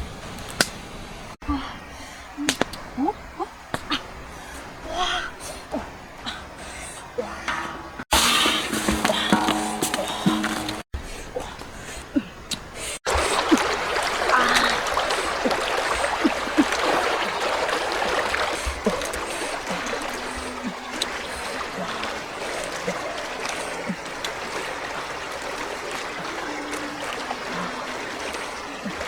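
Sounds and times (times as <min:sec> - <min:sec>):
stream water flowing: 0:00.0 - 0:12.0, 0:12.6 - 0:29.0.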